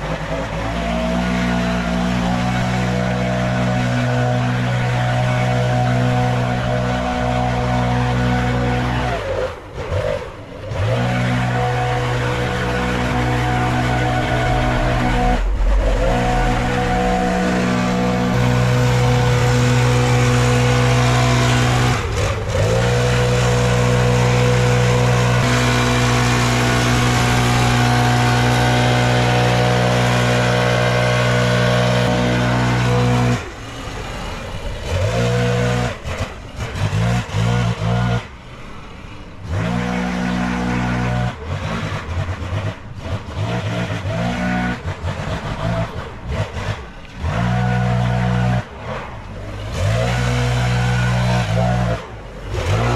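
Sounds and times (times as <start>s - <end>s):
leaf blower engine revving: 0.0s - 38.6s, 39.4s - 52.9s.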